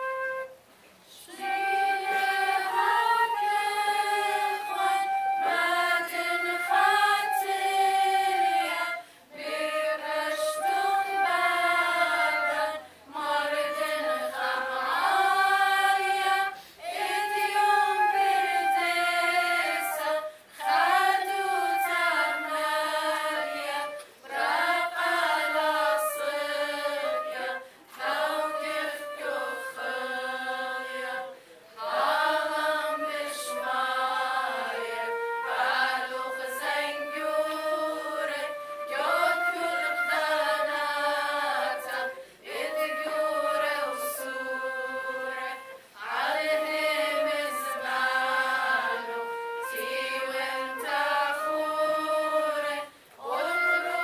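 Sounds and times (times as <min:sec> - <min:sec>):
flute playing: 0:00.0 - 0:54.0
women's choir singing a hymn: 0:01.1 - 0:54.0.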